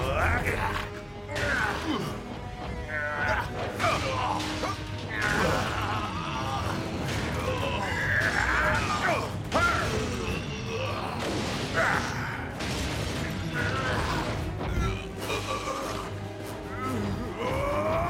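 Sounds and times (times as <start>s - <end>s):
background score music: 0.0s - 18.0s.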